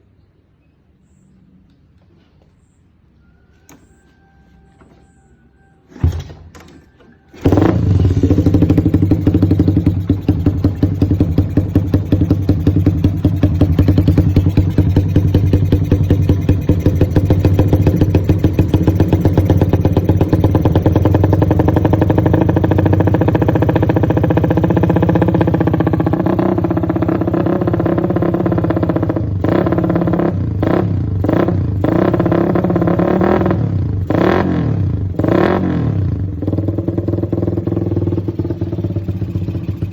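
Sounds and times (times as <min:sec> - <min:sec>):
motorcycle throttle blips: 0:05.9 - 0:39.9
motorcycle engine idling: 0:07.3 - 0:39.9.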